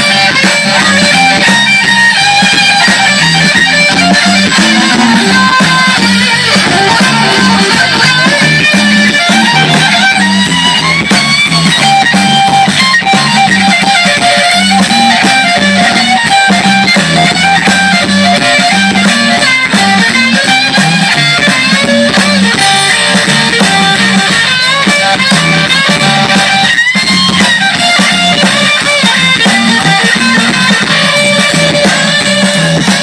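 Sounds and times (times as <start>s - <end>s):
live blues band playing: 0.0s - 33.0s.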